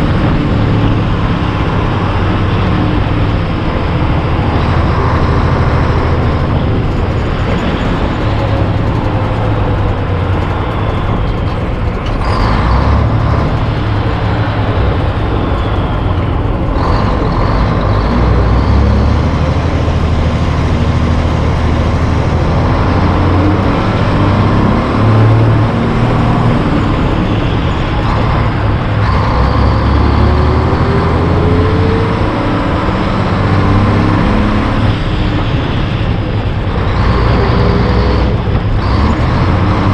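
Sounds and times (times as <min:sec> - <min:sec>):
diesel truck engine drone: 0:00.0 - 0:39.9
road noise: 0:00.0 - 0:39.9
wind noise: 0:00.0 - 0:39.9.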